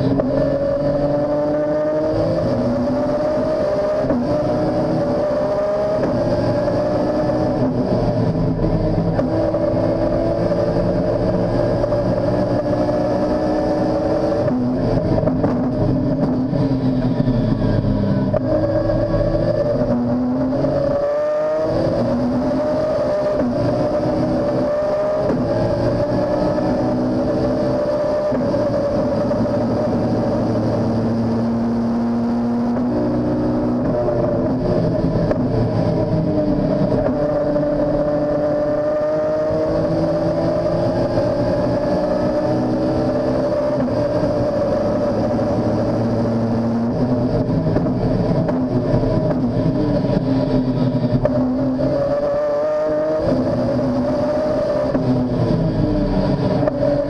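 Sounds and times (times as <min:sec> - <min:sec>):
race car engine at high revs: 0:00.0 - 0:57.0
road and tyre noise: 0:00.0 - 0:57.0.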